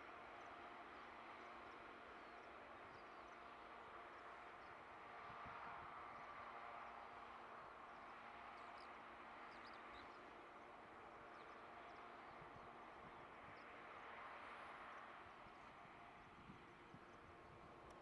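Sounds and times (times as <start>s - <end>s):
distant diesel locomotive hum: 0.0s - 18.0s.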